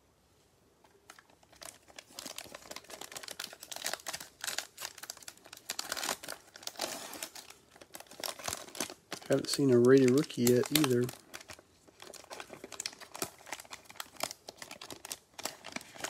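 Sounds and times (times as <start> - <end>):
plastic wrapper tearing and crinkling: 0.9 - 16.0.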